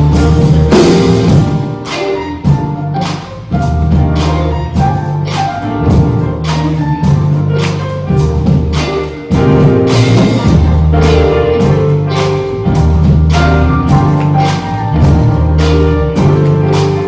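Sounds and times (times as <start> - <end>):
instrumental music with drum beat: 0.0 - 17.0.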